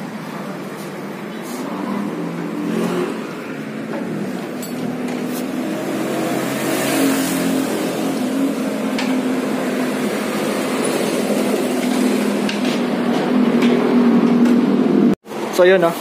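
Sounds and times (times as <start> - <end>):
engine running: 0.0 - 15.5.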